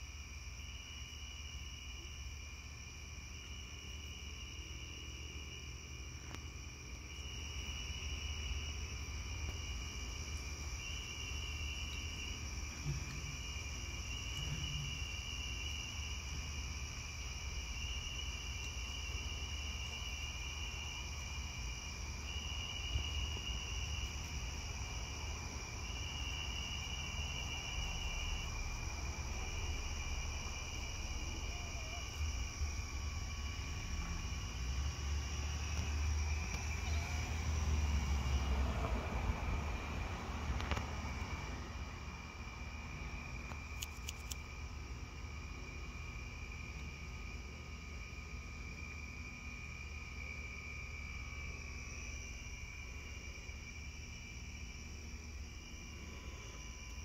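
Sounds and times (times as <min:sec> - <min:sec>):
crickets calling: 0:00.0 - 0:57.0
insect trill: 0:00.0 - 0:57.0.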